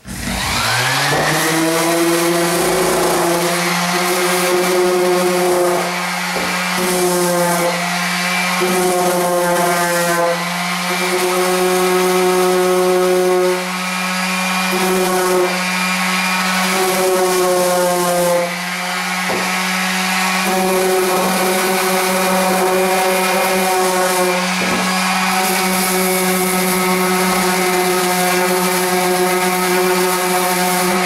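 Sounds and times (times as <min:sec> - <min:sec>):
electric power sander running: 0:00.0 - 0:31.0.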